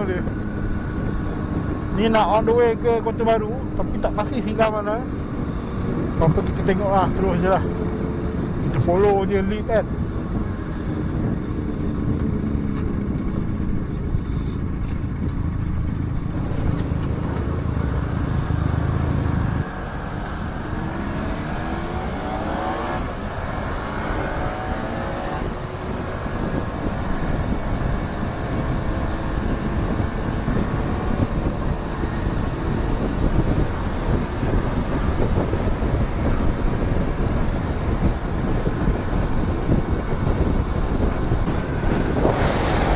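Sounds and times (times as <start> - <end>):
motorcycle engine accelerating: 0.0 - 42.9
wind rushing past microphone: 0.0 - 42.9.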